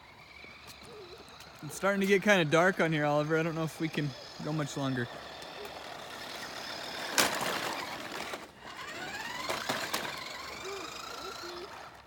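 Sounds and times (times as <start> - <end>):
remote-control car motor whining: 0.0 - 12.0.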